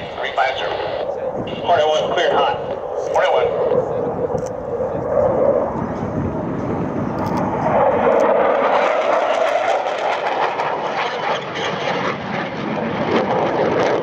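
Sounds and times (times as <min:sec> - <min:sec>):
fighter jet flying past: 0:00.0 - 0:14.0.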